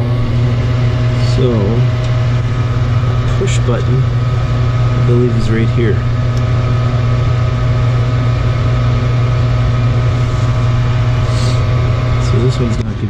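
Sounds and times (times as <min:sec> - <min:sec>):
gas furnace humming: 0:00.0 - 0:13.0.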